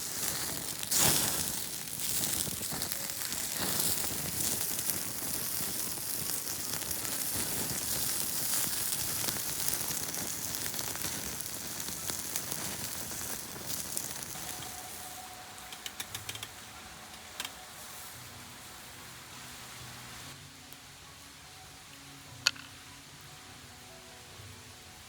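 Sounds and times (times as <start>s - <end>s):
campfire crackling: 0.0s - 23.2s.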